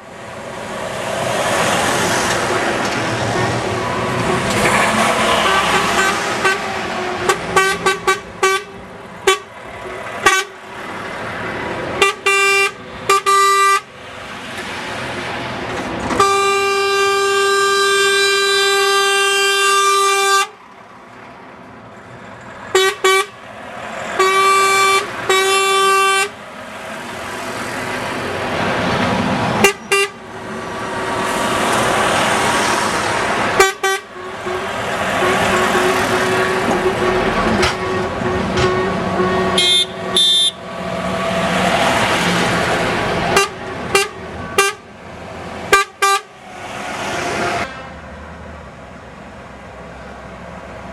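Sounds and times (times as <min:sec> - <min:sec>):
vehicles passing: 0:00.0 - 0:50.9
truck horns honking: 0:00.8 - 0:14.0, 0:16.0 - 0:20.7, 0:22.6 - 0:28.8, 0:29.5 - 0:48.1.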